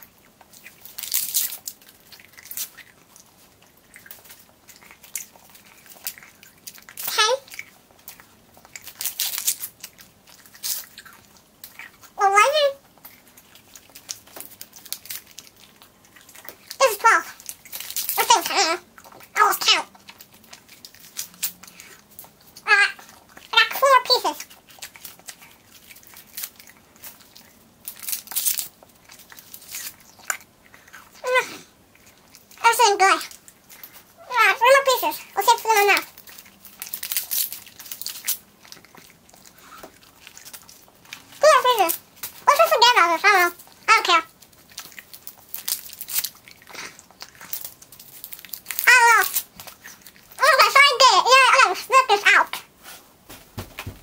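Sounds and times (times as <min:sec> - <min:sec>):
mouth chewing noises: 0:00.0 - 0:53.2
paper wrapper crinkling: 0:00.5 - 0:03.2, 0:03.9 - 0:11.0, 0:13.0 - 0:30.4, 0:33.1 - 0:51.1.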